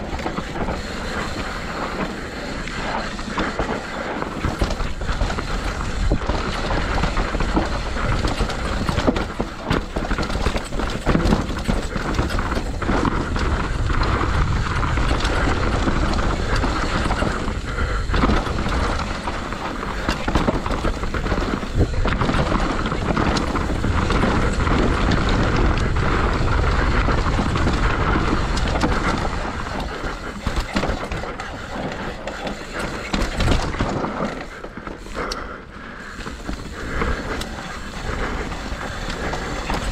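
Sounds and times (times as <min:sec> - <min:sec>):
bike rattling and knocking: 0:00.0 - 0:39.9
bike tyres rolling over dirt: 0:00.0 - 0:39.9
wind rushing over microphone: 0:00.0 - 0:39.9.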